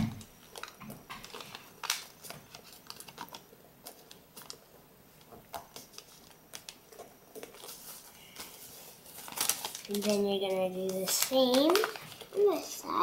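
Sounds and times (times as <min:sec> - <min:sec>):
paper crinkling: 0:00.4 - 0:13.0.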